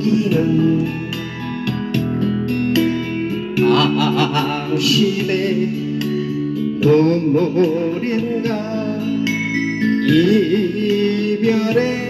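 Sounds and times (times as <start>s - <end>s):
person singing with vibrato: 0.0s - 1.7s, 3.6s - 12.0s
instrumental accompaniment: 0.0s - 12.0s.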